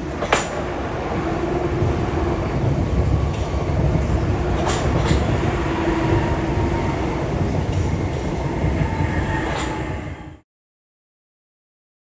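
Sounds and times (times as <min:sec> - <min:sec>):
wheel and rail rumble: 0:00.0 - 0:10.4.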